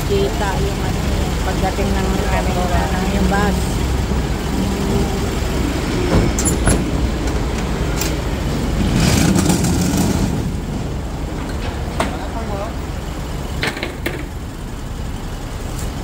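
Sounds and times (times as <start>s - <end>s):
rush of noise: 0.0s - 13.8s
heavy vehicle engines rumbling: 0.0s - 16.0s.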